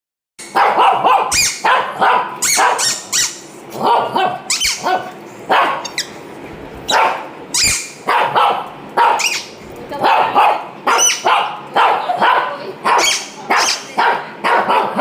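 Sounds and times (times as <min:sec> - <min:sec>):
small dog barking high-pitched: 0:00.4 - 0:06.1, 0:06.9 - 0:15.0.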